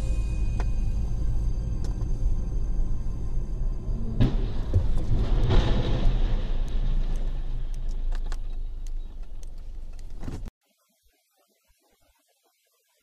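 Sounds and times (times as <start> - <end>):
bus engine and road noise: 0.0 - 10.5.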